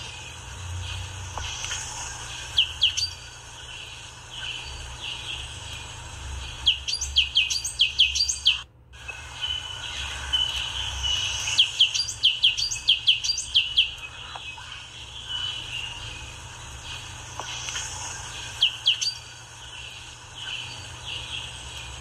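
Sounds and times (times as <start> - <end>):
bird chirping downward notes: 0.8 - 22.0.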